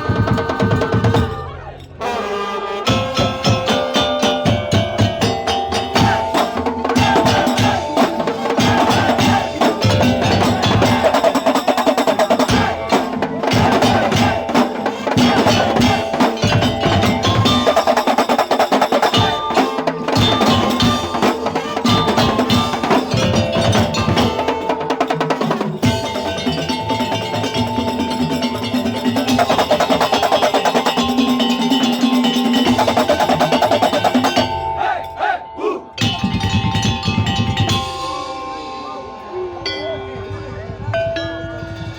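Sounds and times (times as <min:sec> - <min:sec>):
slit drums gongs and metal percussion: 0:00.0 - 0:41.9.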